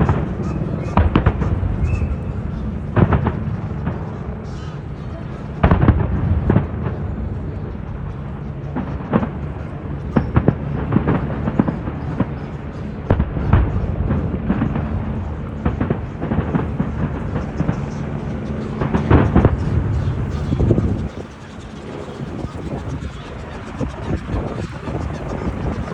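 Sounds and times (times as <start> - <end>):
fireworks exploding: 0.0 - 4.4, 5.3 - 25.9
crowd voices: 0.0 - 25.9.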